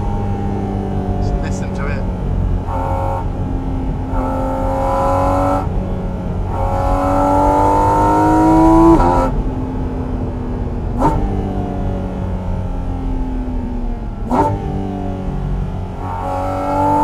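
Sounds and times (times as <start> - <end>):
car engine revving hard: 0.0 - 17.0
gear change: 0.0 - 17.0.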